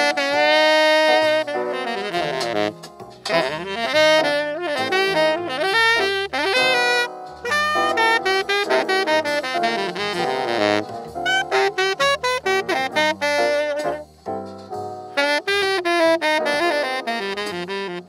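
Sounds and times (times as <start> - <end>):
saxophone playing jazz ballad: 0.0 - 14.2, 15.1 - 18.0.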